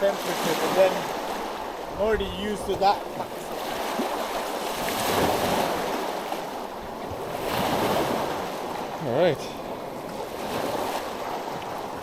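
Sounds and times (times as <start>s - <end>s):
small waves washing over rocks: 0.0s - 12.0s.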